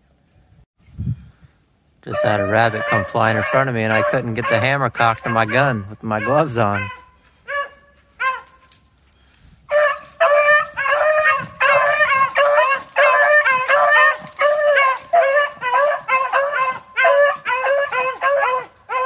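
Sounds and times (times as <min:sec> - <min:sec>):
dogs baying: 0:02.1 - 0:08.7, 0:09.7 - 0:19.0.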